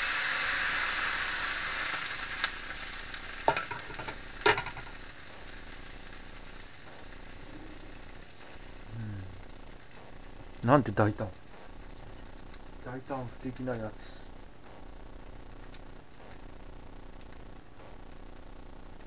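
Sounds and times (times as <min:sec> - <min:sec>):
bean sprouts sizzling in pan: 0:00.0 - 0:19.0.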